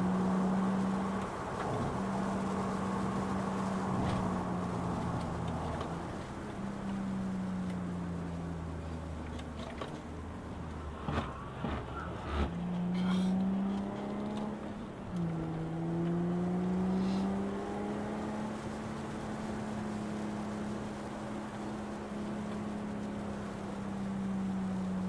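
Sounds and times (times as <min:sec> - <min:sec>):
car engine accelerating: 0:00.0 - 0:25.0
road noise: 0:00.0 - 0:25.0.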